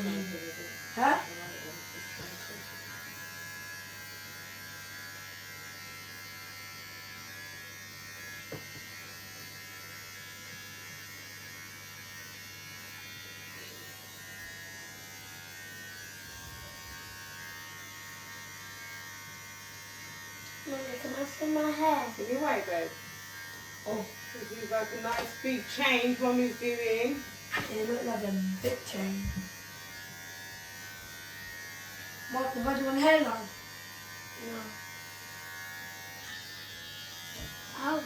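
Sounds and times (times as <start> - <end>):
electric hair clippers buzzing: 0.0 - 38.0.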